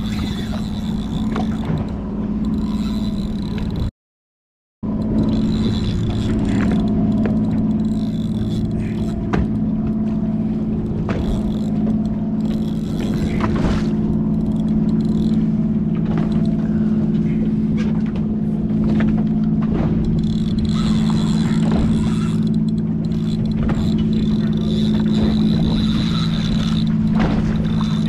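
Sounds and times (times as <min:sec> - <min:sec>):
boat engines idling: 0:00.0 - 0:03.9, 0:04.8 - 0:28.0.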